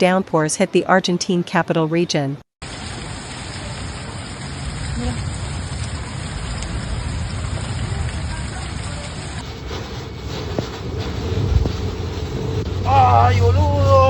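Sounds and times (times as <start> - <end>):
heavy rain hissing: 2.6 - 14.0
low thunder rumble: 2.7 - 14.0.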